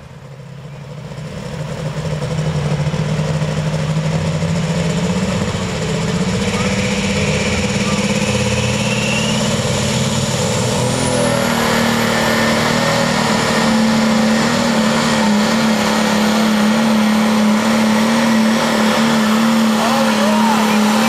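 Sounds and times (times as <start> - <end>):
diesel tractor engine under load: 0.0 - 21.0
high turbo whine: 0.0 - 21.0.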